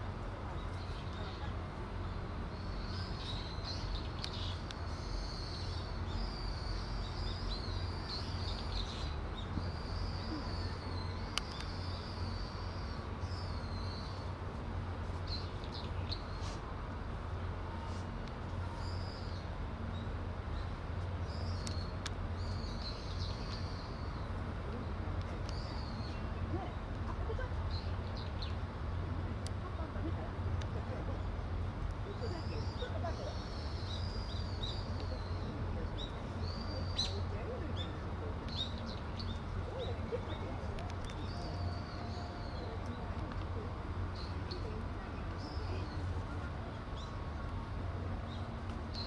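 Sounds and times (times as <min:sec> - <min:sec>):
small birds chirping: 0:00.4 - 0:16.6, 0:17.4 - 0:28.8, 0:30.6 - 0:49.0.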